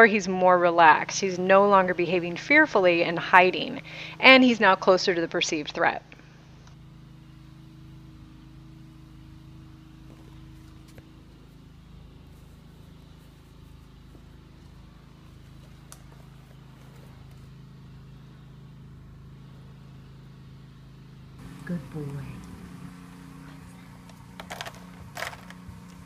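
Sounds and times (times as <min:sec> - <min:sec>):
pressure washer running: 0:00.0 - 0:26.0.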